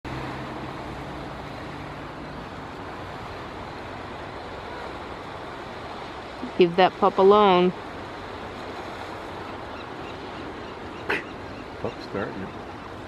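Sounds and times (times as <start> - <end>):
surf washing on shore: 0.1 - 13.0.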